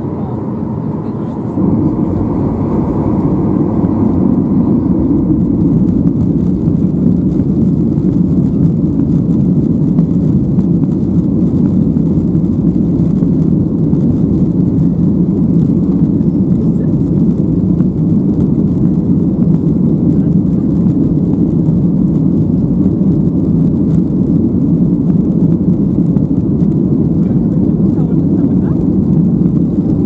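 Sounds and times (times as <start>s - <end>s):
jet engines rumbling in cabin: 0.0s - 30.0s.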